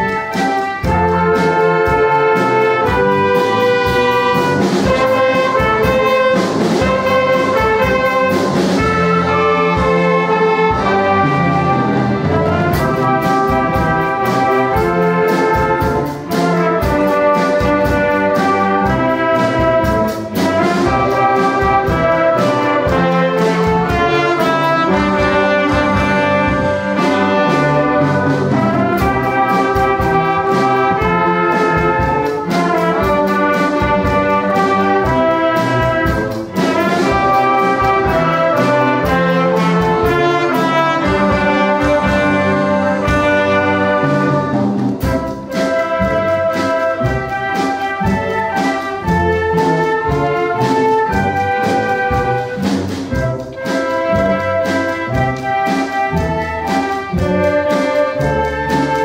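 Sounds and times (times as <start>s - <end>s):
orchestra playing ragtime: 0.0s - 59.0s.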